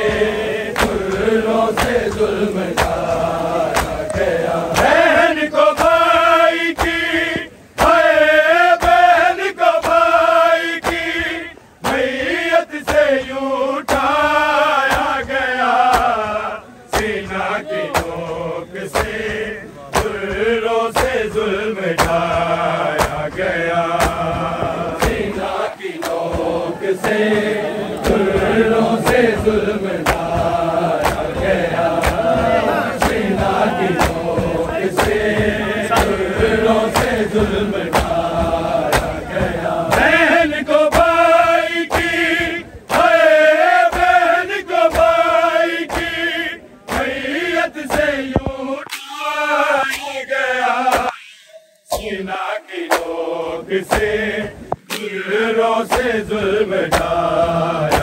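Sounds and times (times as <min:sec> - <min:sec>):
men chanting: 0:00.0 - 0:58.0
hands slapping chests: 0:00.7 - 0:09.2, 0:09.8 - 0:10.2, 0:10.8 - 0:11.2, 0:13.8 - 0:14.2, 0:14.8 - 0:50.2, 0:50.8 - 0:52.2, 0:52.8 - 0:53.3, 0:53.9 - 0:56.2, 0:56.8 - 0:58.0.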